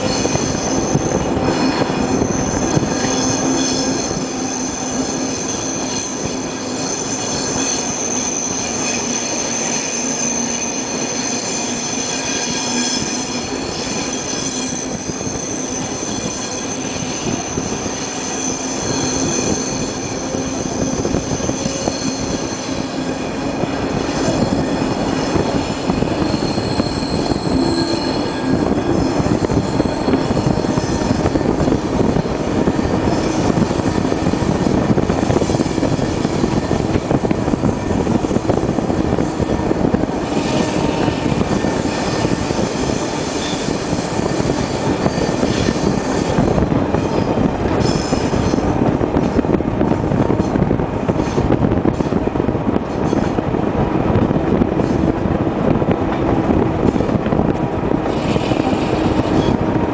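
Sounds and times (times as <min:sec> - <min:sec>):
train wheels squealing: 0:00.0 - 0:52.2, 0:52.9 - 0:53.4, 0:58.0 - 0:59.7
train rolling rumble: 0:00.0 - 0:59.9.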